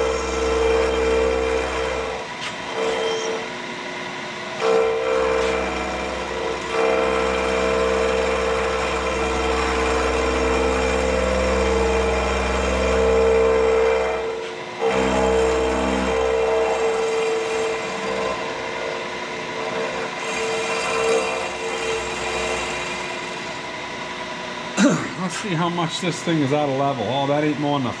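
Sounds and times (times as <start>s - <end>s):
milling machine cutting metal: 0.0s - 28.0s.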